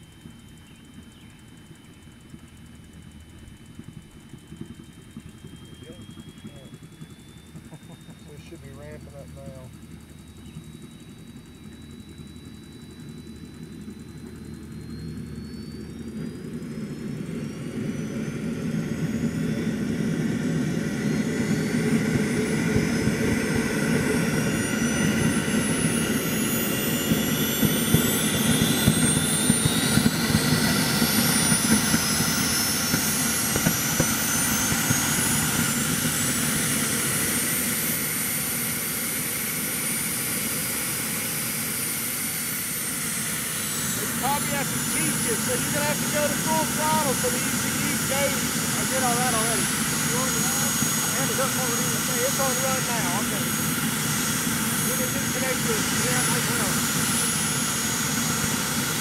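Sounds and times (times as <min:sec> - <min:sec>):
jet turbine spooling up: 0:00.0 - 0:59.0.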